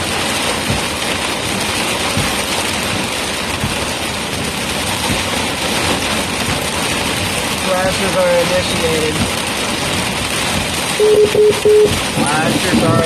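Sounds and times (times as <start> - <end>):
heavy rain on a vehicle: 0.0 - 13.0
faint low thuds: 0.5 - 7.5, 9.2 - 13.0.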